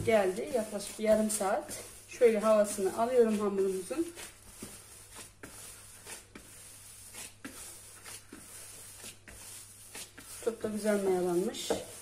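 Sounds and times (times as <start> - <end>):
soft squishes of dough kneading: 0.0 - 12.0.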